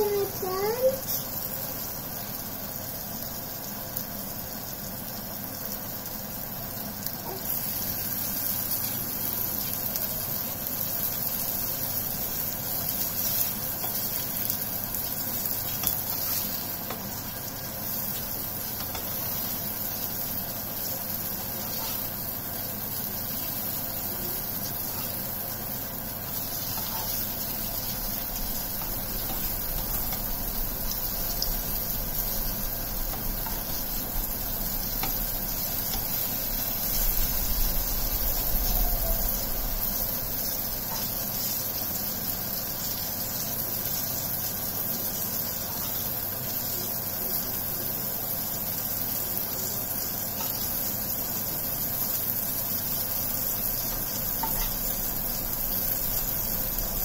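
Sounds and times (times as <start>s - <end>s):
slices sizzling in hot oil: 0.0s - 57.0s
spatula turning food in pan: 0.0s - 57.0s.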